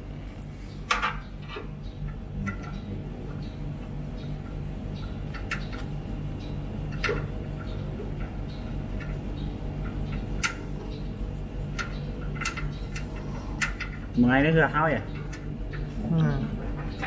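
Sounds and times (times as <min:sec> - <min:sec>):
pulsing low hum: 0:00.0 - 0:17.0.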